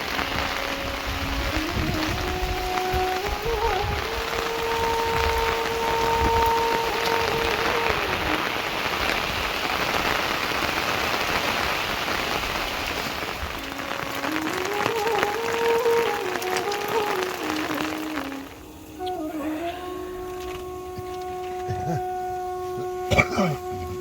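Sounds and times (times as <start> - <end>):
background music melody: 0.0 - 9.6, 13.6 - 24.0
steady rain falling: 0.0 - 24.0.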